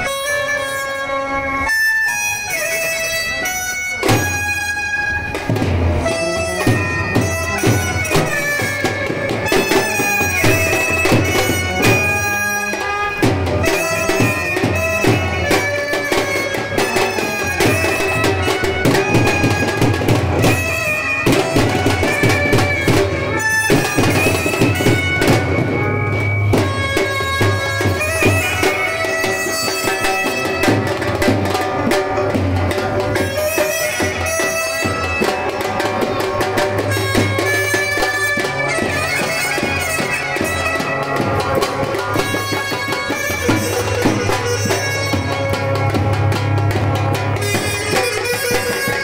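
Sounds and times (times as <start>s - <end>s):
clarinet melody: 0.0s - 49.0s
trumpet melody: 0.0s - 49.0s
steady drum beat: 3.5s - 49.0s.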